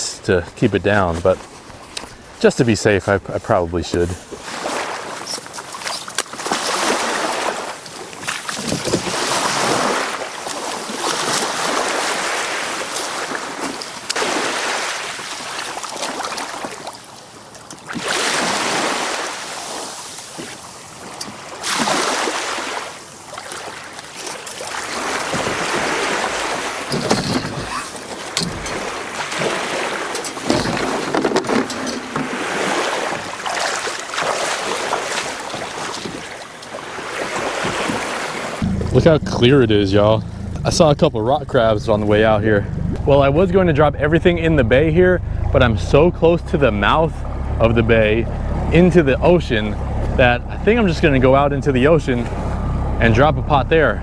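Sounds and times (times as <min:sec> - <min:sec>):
small waves washing: 0:00.7 - 0:53.9.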